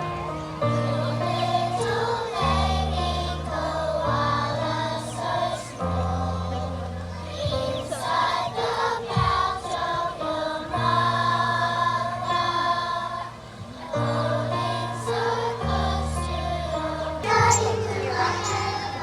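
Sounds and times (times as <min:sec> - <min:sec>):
choir singing with accompaniment: 0:00.0 - 0:19.0.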